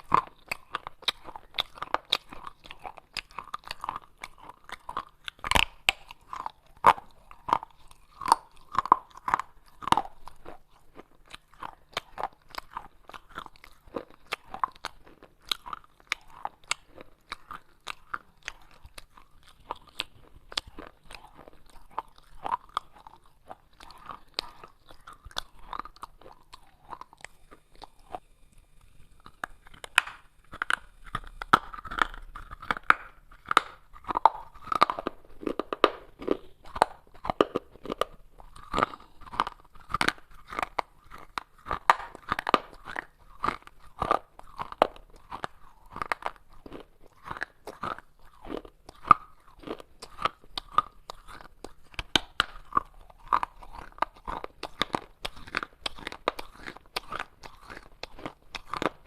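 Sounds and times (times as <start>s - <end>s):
person chewing crunchy clay: 0.0s - 59.0s.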